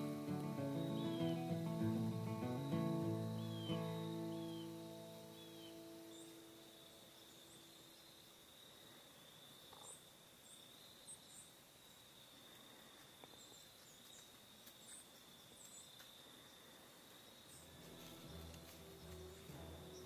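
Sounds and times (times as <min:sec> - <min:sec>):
faint high-pitched whine: 0:00.0 - 0:20.0
small birds chirping: 0:00.0 - 0:20.0.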